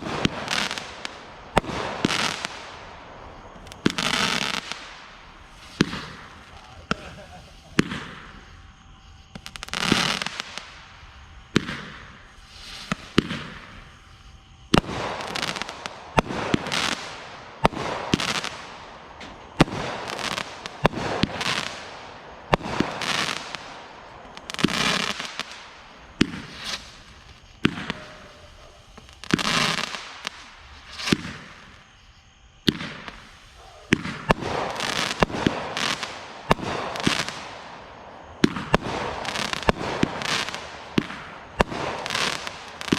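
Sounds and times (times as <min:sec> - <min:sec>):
crackling hiss of fireworks: 0:00.0 - 0:42.9
fireworks bangs: 0:00.0 - 0:42.9.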